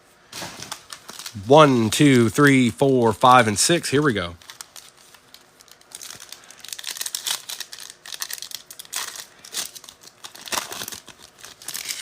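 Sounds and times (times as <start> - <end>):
foil wrappers crinkling and tearing: 0.4 - 2.2, 3.8 - 12.0.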